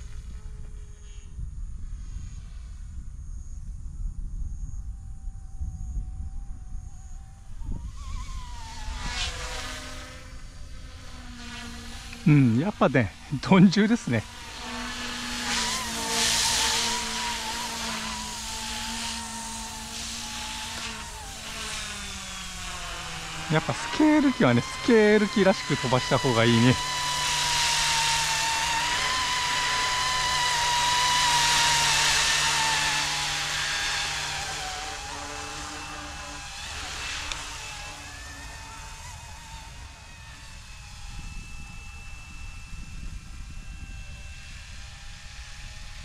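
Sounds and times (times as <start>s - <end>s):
low rotor hum: 0.0s - 46.0s
rc helicopter motor whine: 0.0s - 46.0s.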